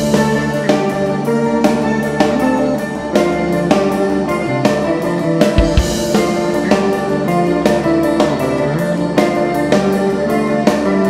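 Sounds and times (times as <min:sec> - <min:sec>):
band with guitar and drums: 0:00.0 - 0:11.0.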